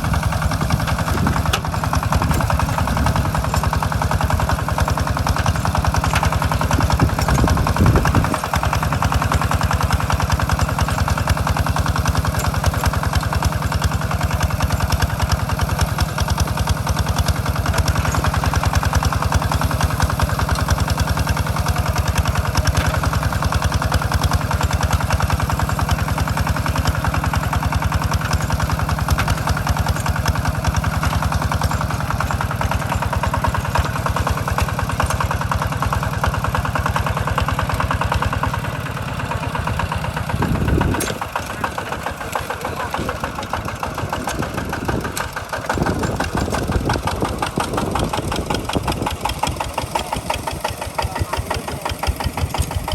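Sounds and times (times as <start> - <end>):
diesel engine chugging: 0.0 - 52.9.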